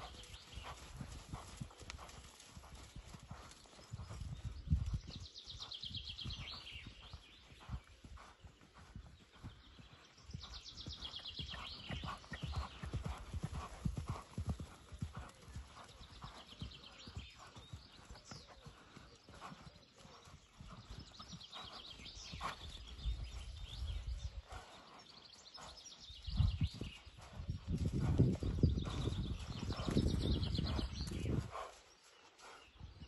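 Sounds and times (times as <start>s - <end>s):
horse hoofbeats cantering on sand: 0.0s - 33.0s.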